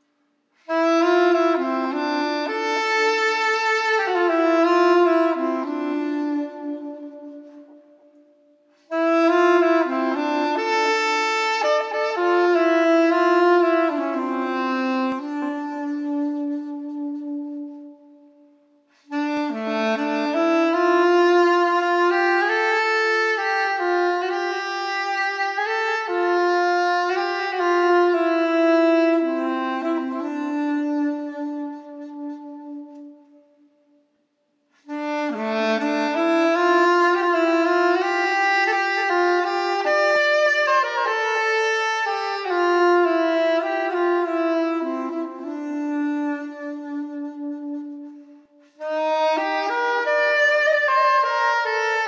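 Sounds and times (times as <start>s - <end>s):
soprano saxophone solo melody: 0.6s - 52.0s.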